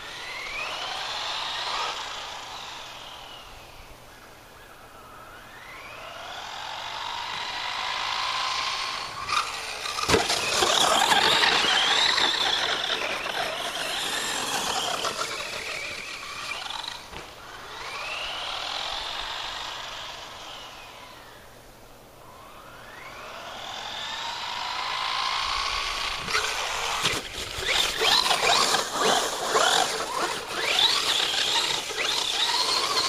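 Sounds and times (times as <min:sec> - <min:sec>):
electric motor whining: 0:05.0 - 0:21.4, 0:22.4 - 0:33.0.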